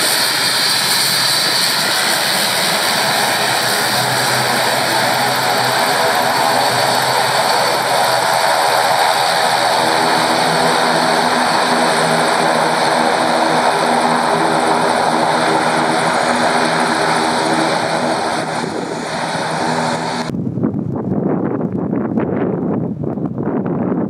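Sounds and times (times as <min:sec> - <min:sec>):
turboprop engines droning: 0:00.0 - 0:20.6
low rumble: 0:00.0 - 0:23.0.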